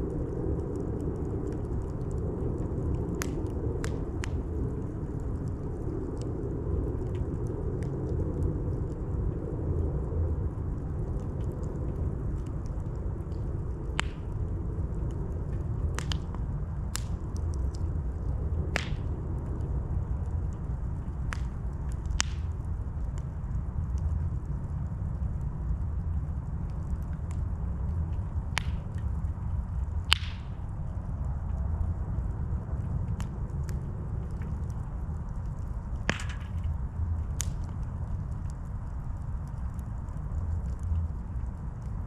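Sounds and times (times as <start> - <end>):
burning wood popping and cracking: 0.0 - 42.0
campfire rumbling: 0.0 - 42.0.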